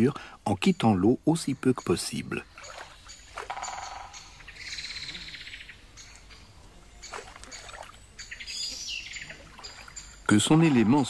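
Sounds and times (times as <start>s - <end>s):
faint running water: 0.0s - 11.0s
small songbird singing: 0.5s - 11.0s.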